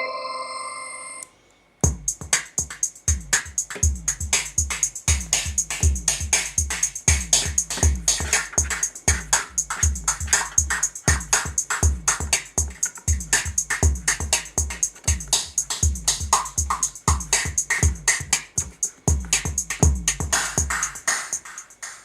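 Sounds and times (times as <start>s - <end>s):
deep kick drum: 1.8s - 21.1s
drum machine loop: 1.8s - 22.0s
hi-hat ticks: 1.8s - 22.0s.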